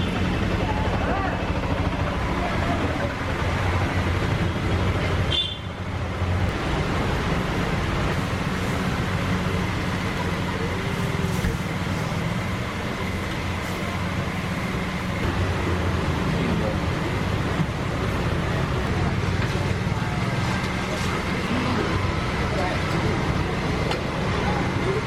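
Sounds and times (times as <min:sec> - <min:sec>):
faint voices: 0:00.0 - 0:05.2, 0:06.5 - 0:25.0
constant low hum: 0:00.0 - 0:25.0
street stall cooking: 0:00.0 - 0:25.0
traffic: 0:00.0 - 0:25.0.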